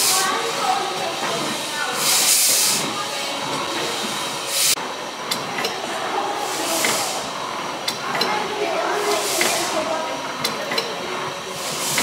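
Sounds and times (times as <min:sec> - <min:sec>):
loud steam hiss: 0:00.0 - 0:10.4, 0:11.3 - 0:12.0
steam engine running slowly: 0:00.0 - 0:12.0.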